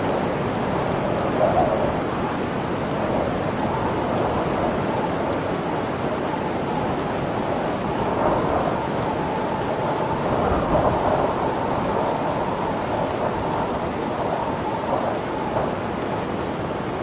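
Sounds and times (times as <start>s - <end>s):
howling blizzard wind: 0.0s - 17.0s.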